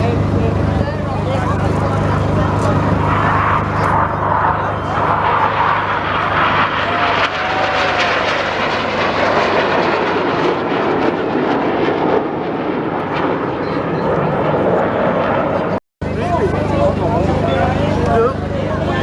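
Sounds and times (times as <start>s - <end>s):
aircraft engine: 0.0s - 19.0s.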